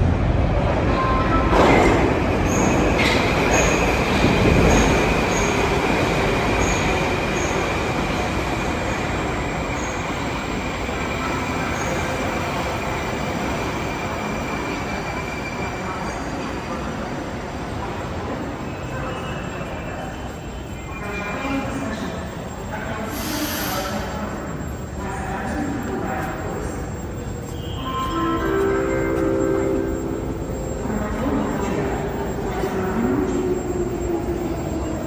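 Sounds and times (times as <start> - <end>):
metro train rumbling: 0.0 - 35.0.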